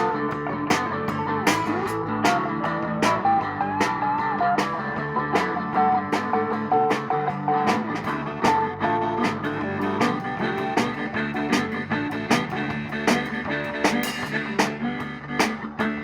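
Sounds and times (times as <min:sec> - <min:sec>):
blues-rock music with guitar: 0:00.0 - 0:16.0.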